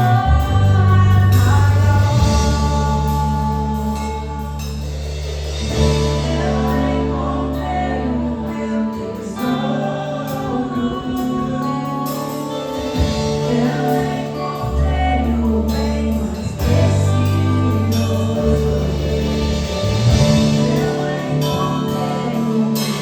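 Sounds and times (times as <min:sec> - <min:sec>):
gospel worship singing: 0:00.0 - 0:23.0
held chords and bass notes: 0:00.0 - 0:23.0.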